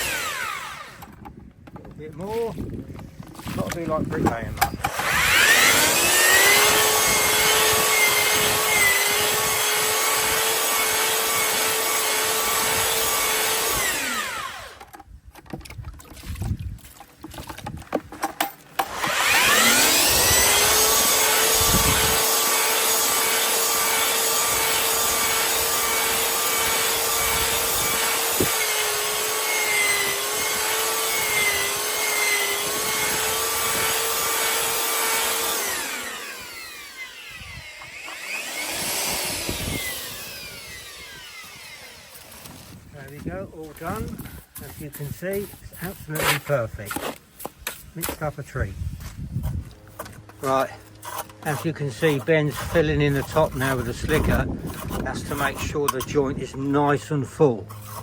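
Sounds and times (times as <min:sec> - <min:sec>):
electric paddle mixer churning mortar: 0:00.0 - 0:48.3, 0:49.2 - 0:58.0.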